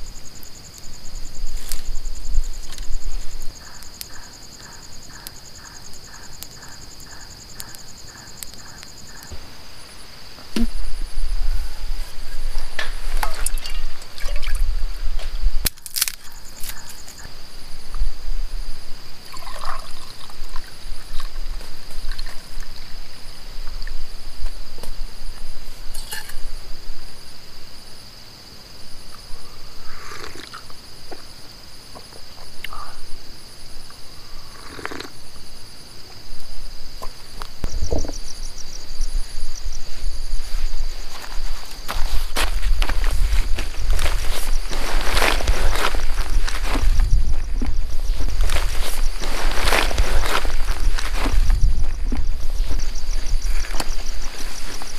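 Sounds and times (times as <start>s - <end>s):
crickets chirring: 0.0s - 54.9s
pulsing insect call: 0.0s - 54.9s.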